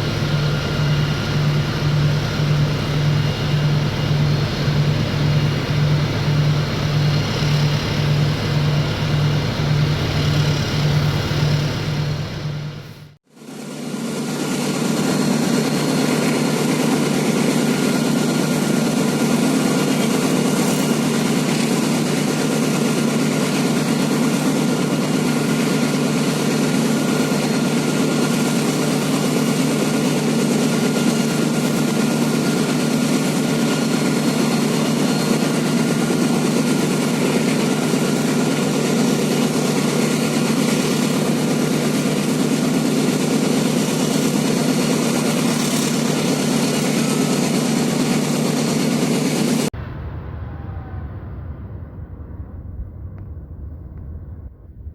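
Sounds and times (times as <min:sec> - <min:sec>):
locomotive engine droning: 0:00.0 - 0:54.9.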